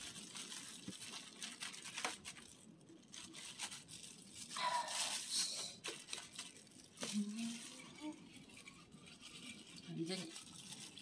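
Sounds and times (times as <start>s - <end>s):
dry peels crackling: 0.0s - 11.0s
plastic glove crinkling: 0.0s - 11.0s.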